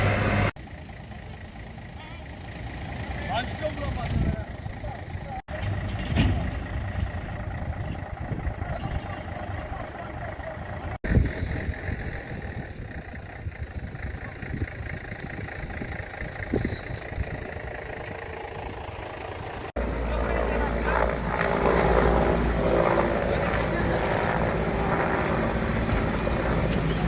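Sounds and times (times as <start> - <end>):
heavy vehicles idling: 0.0 - 27.0.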